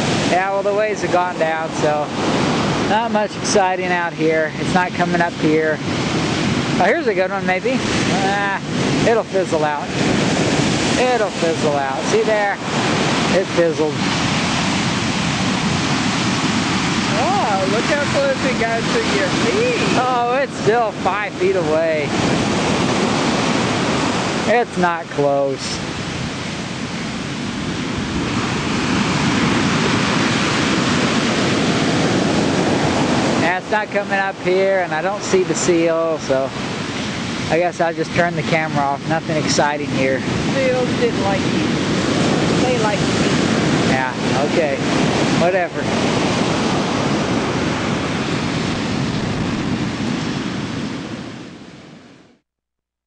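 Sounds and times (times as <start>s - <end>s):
waves breaking on sand beach: 0.0s - 52.4s.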